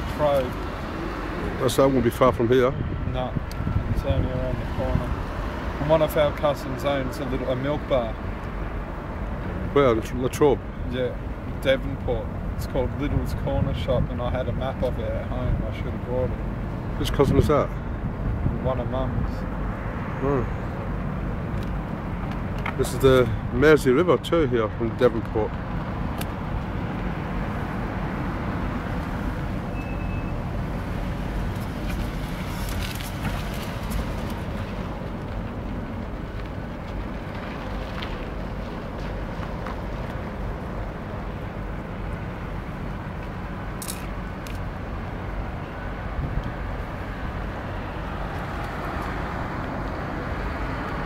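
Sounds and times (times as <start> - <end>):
car road and engine noise: 0.0 - 51.0.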